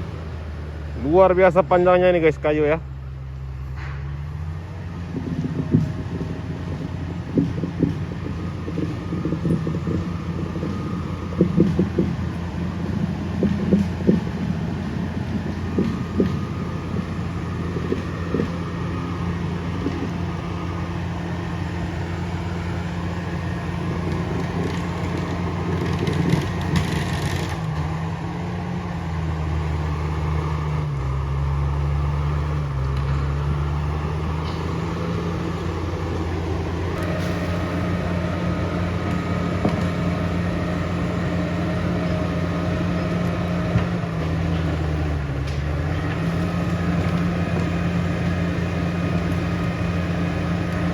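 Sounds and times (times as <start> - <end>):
bulldozer diesel engine labouring: 0.0 - 50.9.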